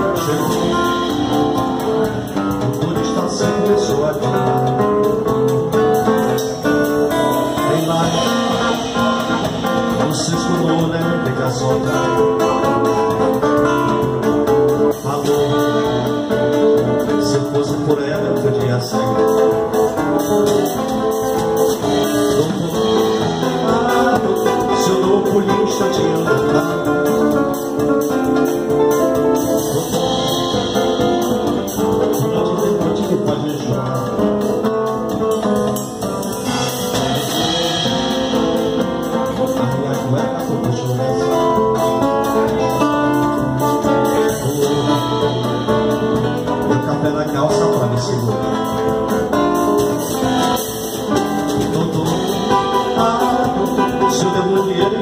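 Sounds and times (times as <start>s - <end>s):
acoustic guitars: 0.0s - 55.0s
drum kit: 0.0s - 55.0s
man singing: 0.0s - 55.0s.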